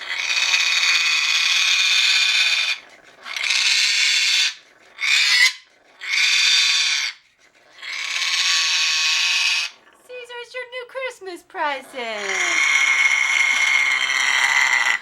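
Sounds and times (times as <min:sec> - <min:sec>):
parrot growling: 0:00.0 - 0:10.1, 0:11.8 - 0:15.0.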